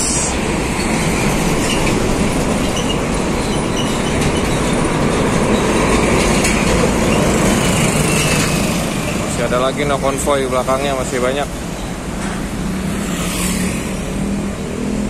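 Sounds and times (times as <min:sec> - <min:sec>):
heavy trucks passing: 0:00.0 - 0:15.0
tyres on the road: 0:00.0 - 0:15.0.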